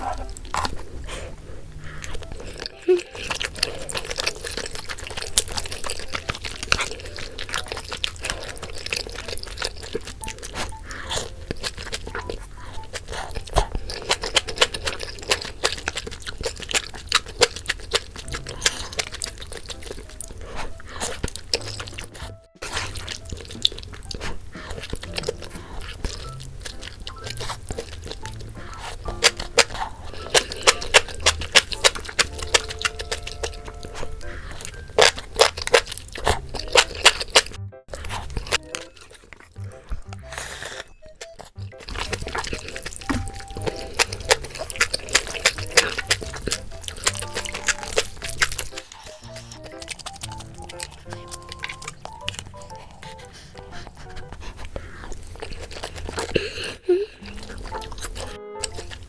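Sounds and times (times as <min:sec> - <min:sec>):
eating clicks and crunches: 0:00.0 - 0:59.0
liquid sounds: 0:02.0 - 0:56.2.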